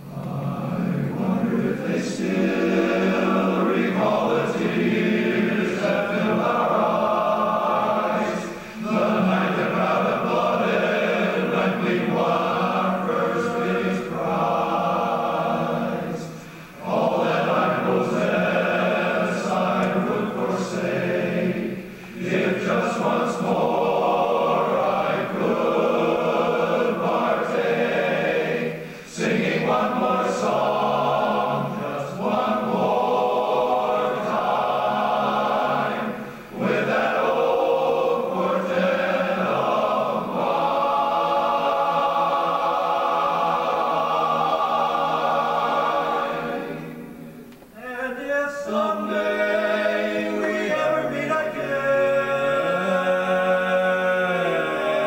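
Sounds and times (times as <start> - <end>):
male chorus singing a cappella: 0.0 - 55.0.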